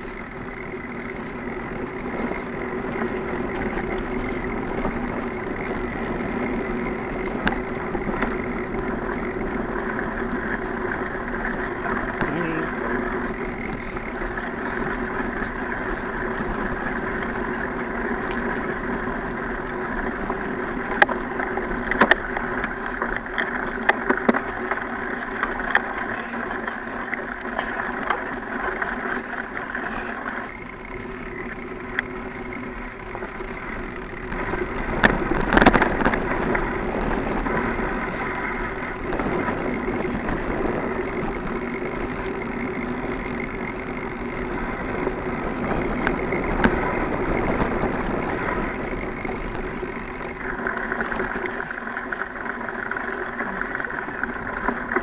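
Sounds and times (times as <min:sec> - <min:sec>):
bicycle knocks and rattles: 0:00.0 - 0:55.0
bicycle tyre noise on dirt: 0:00.0 - 0:55.0.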